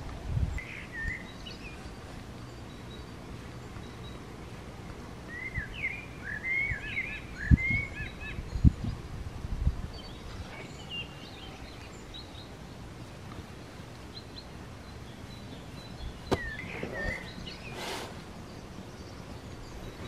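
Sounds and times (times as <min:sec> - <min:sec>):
birds chirping: 0:00.0 - 0:20.0
outdoor background hiss: 0:00.0 - 0:20.0.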